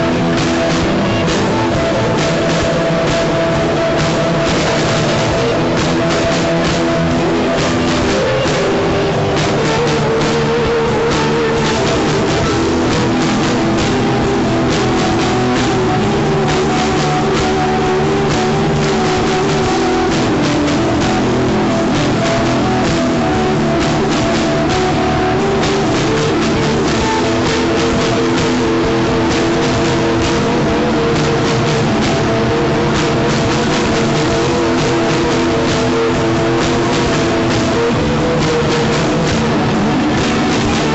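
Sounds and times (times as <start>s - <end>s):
rock song with guitar and drums: 0.0s - 40.9s.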